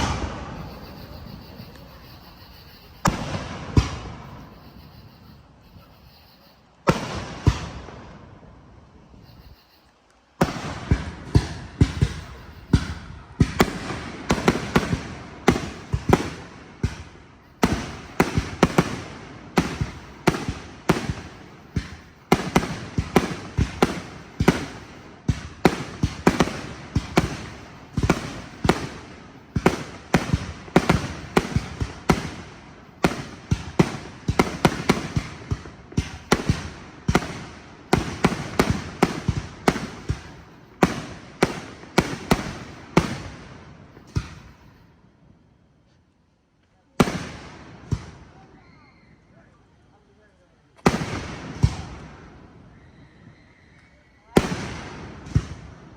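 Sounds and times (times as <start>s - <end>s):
fireworks bangs with echoes: 0.0s - 8.5s, 10.4s - 44.8s, 47.0s - 48.4s, 50.8s - 52.8s, 54.2s - 55.9s.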